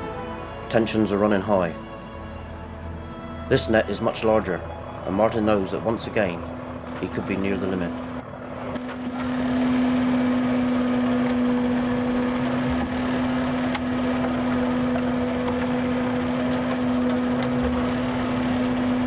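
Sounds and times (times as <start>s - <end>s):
boat engine and deck machinery hum: 0.0s - 19.0s.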